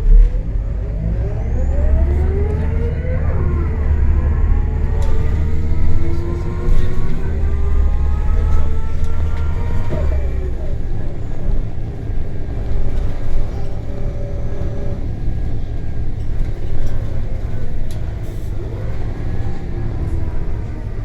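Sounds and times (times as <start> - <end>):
bus engine low rumble: 0.0 - 21.0
faint shifting engine tones: 0.0 - 21.0.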